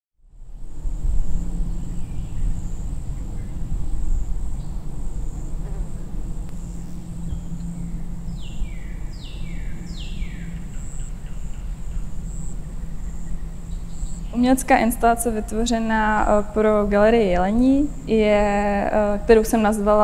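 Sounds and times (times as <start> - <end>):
low rumble: 0.2 - 20.0
high insect-like trill: 0.4 - 20.0.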